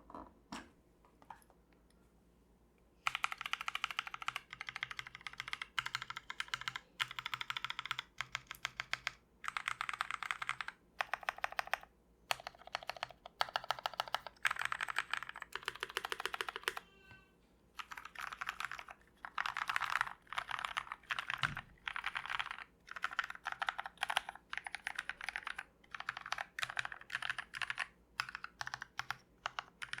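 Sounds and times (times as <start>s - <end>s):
mechanical keyboard typing: 3.0s - 16.8s, 17.8s - 30.0s.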